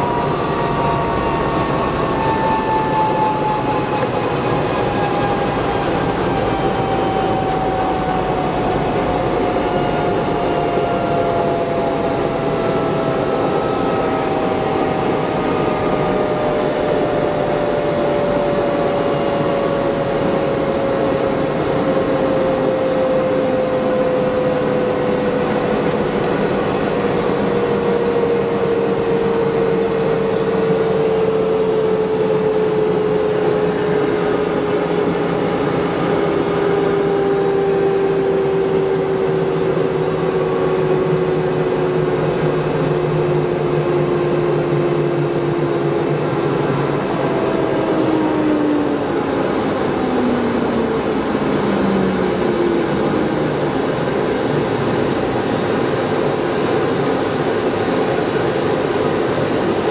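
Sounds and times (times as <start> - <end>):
helicopter turbine whine: 0.0 - 59.9
turbine and rotor noise: 0.0 - 59.9.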